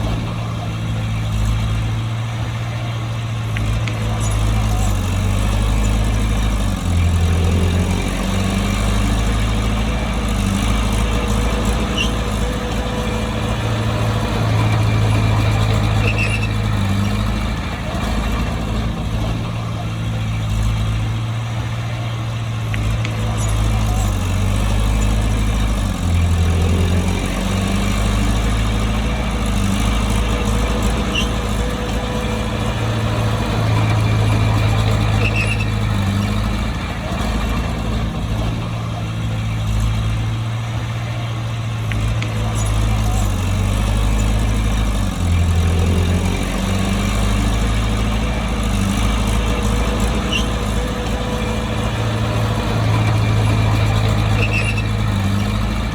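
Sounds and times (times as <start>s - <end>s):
bulldozer diesel engine droning: 0.0s - 55.9s.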